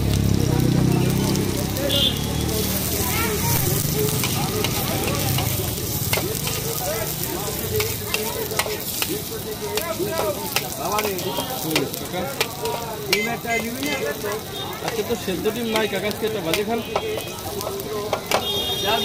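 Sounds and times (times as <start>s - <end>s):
egg sizzling in hot oil: 0.0s - 19.0s.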